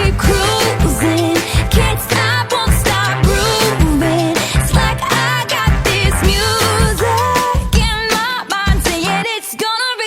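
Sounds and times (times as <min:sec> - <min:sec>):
pop music with singing: 0:00.0 - 0:10.0.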